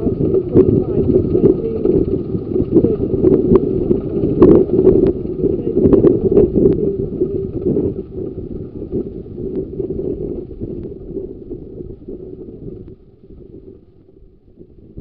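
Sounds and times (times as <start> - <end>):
small train rumbling on rails: 0.0 - 13.8.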